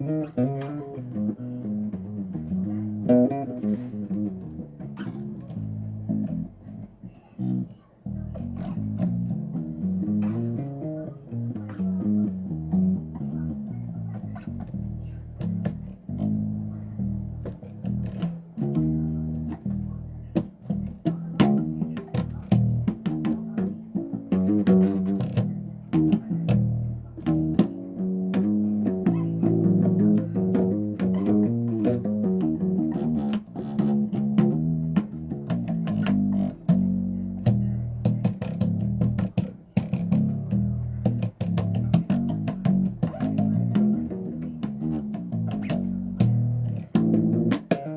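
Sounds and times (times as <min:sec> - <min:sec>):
electric bass guitar plucked notes: 0:00.0 - 0:47.9.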